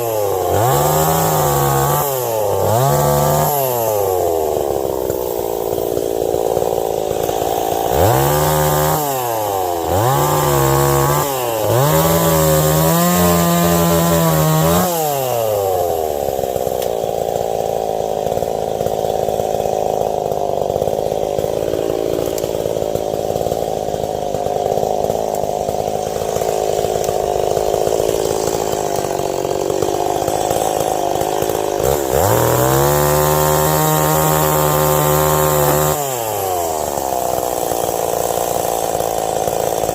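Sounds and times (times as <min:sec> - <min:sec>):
chainsaw idling: 0:00.0 - 0:39.9
chainsaw revving: 0:00.0 - 0:39.9.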